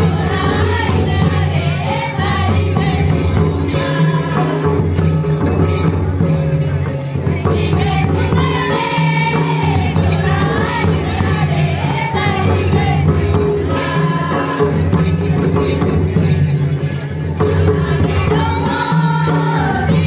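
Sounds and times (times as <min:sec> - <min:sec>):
group singing: 0:00.0 - 0:05.5, 0:07.2 - 0:15.5, 0:17.5 - 0:20.0
hand-played barrel drums: 0:00.0 - 0:20.0.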